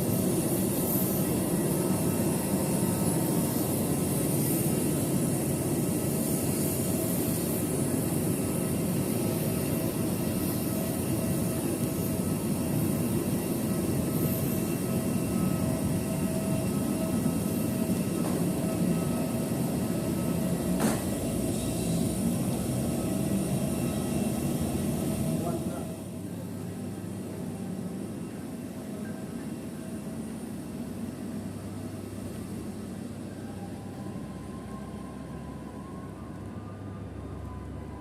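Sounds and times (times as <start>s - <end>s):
airliner cabin drone: 0.0s - 38.0s
faint engine whine: 0.0s - 38.0s.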